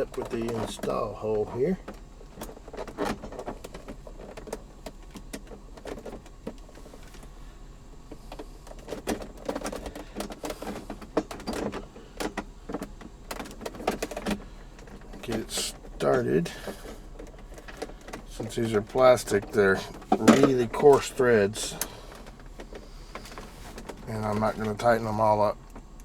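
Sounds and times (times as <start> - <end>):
plastic parts clicking and rattling: 1.6 - 7.3, 8.3 - 26.0.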